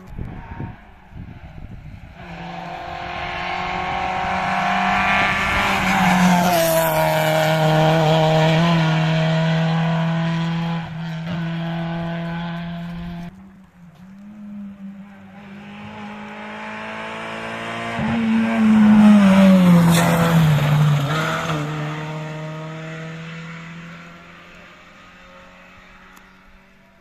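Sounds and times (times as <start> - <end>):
rally car engine at high revs: 0.0 - 13.3, 14.2 - 26.6.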